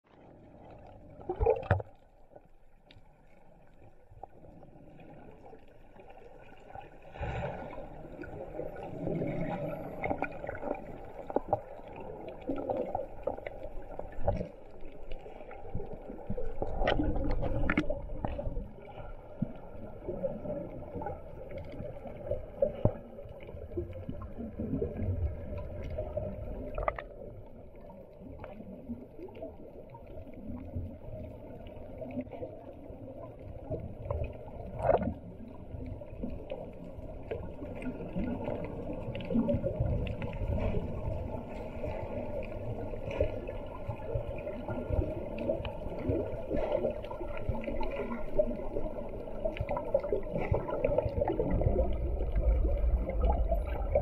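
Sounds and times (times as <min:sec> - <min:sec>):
muffled underwater rumble: 0:00.0 - 0:54.0.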